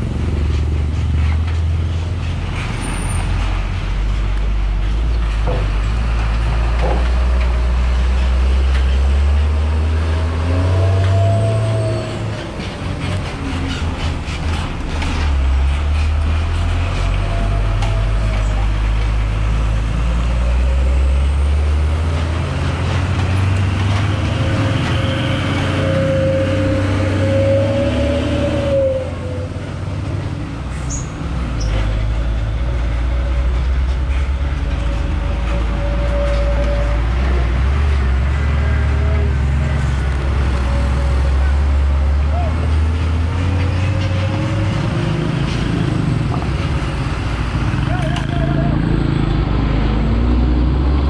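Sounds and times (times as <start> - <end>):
large vehicle rumbling: 0.0 - 51.0.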